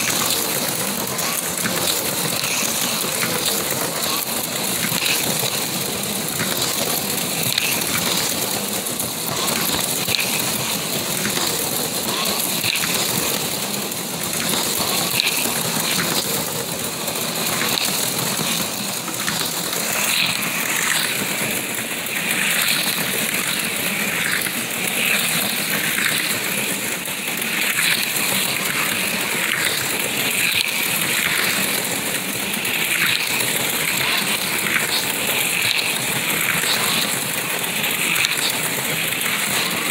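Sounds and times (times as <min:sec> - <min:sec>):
slot cars whirring: 0:00.0 - 0:39.9.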